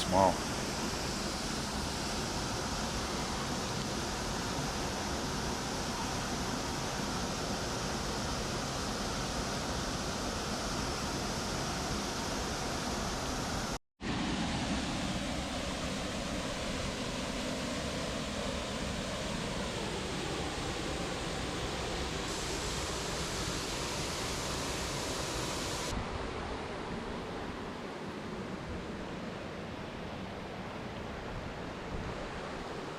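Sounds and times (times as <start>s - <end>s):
waterfall and rapids rushing: 0.0s - 32.9s.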